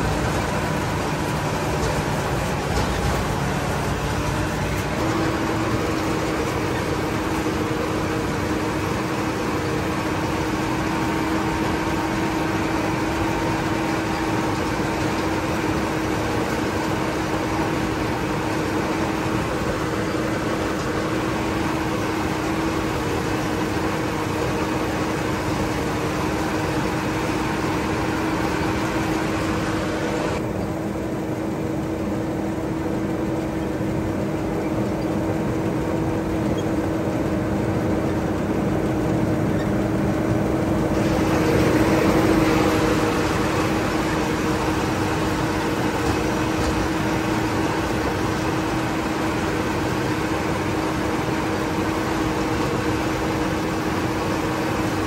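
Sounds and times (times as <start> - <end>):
harvester engine drone: 0.0 - 55.0.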